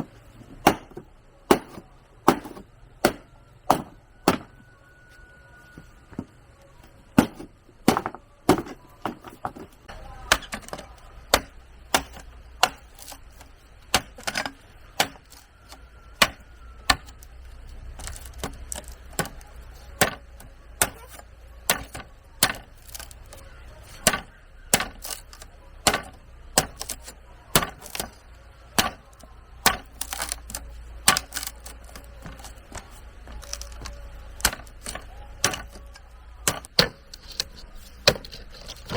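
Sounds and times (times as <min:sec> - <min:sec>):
tool striking bamboo: 0:00.0 - 0:04.6, 0:07.2 - 0:38.9
low steady rumble: 0:00.0 - 0:38.9.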